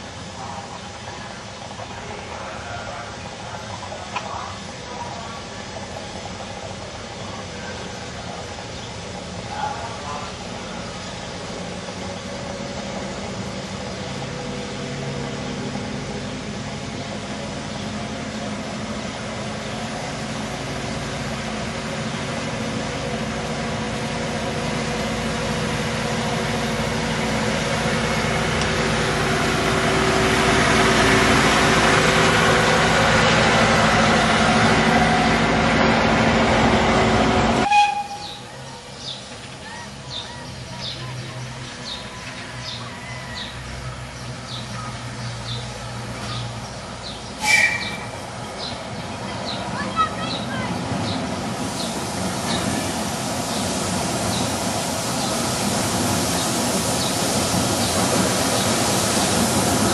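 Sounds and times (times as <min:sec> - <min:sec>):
coaches rumbling on track: 0:00.0 - 0:59.9
diesel locomotive engine running: 0:00.0 - 0:59.9.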